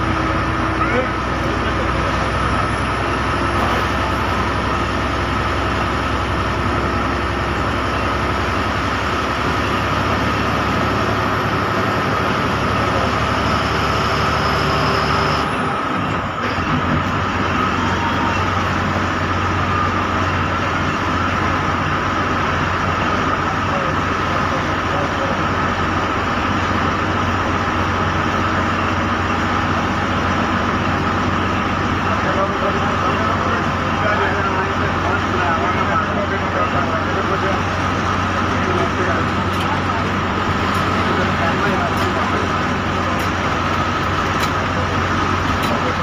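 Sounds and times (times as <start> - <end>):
bus engine running: 0.0 - 46.0.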